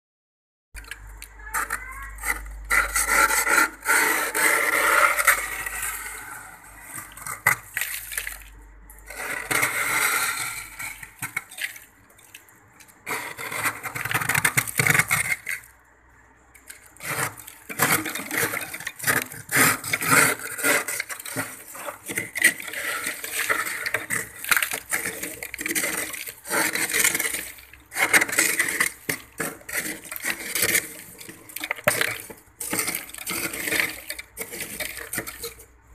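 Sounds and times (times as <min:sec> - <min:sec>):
scraper gouging ice: 0:00.8 - 0:15.8, 0:16.6 - 0:35.7.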